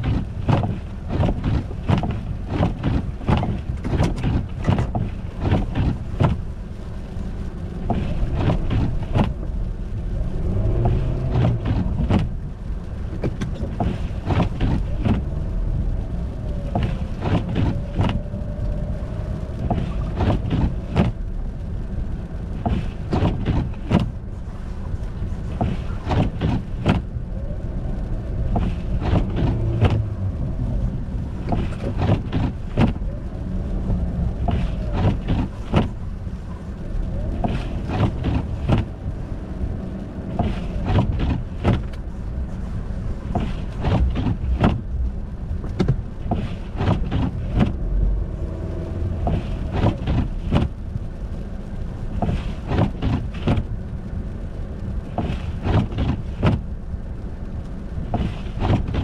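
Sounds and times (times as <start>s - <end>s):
sharp knocks and crackles: 0.0s - 6.6s, 7.2s - 51.3s, 52.1s - 53.8s, 54.8s - 56.7s, 57.6s - 59.0s
car driving low rumble: 0.0s - 59.0s.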